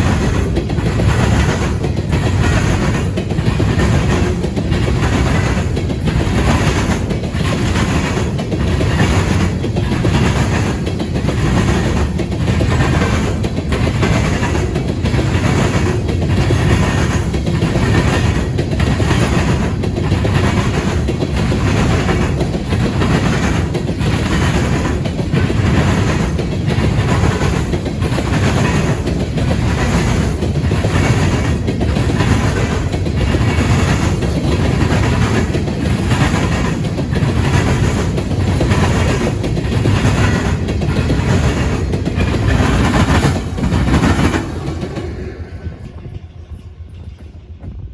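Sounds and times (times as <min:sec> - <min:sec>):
train wheels clattering over rail joints: 0:00.0 - 0:47.9.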